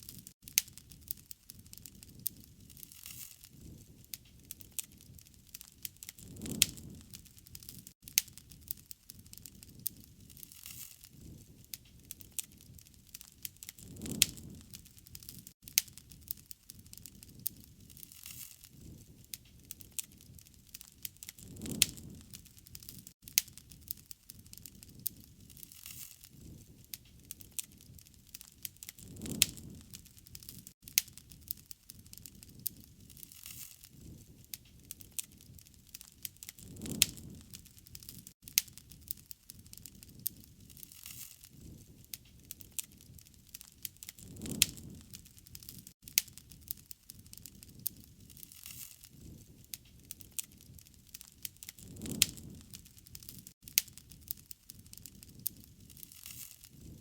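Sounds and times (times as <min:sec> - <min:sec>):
flames rushing: 0:00.0 - 0:57.0
wood fire crackling: 0:00.0 - 0:57.0.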